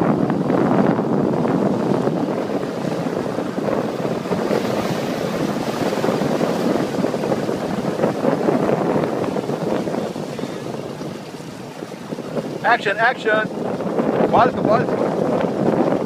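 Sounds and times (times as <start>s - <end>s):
rushing wind and water: 0.0s - 16.0s
wind buffeting microphone: 0.0s - 16.0s.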